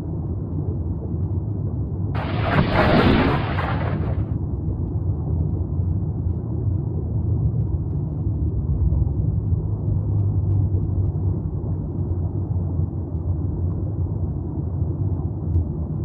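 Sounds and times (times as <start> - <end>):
underwater low rumble: 0.2 - 16.0.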